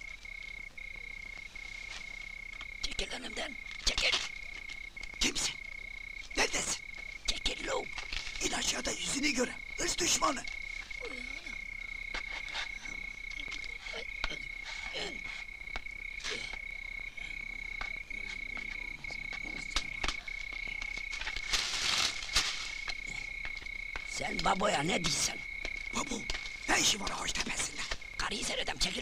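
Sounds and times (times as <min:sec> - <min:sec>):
cricket trilling: 0:00.0 - 0:29.0
frogs croaking: 0:00.0 - 0:29.0.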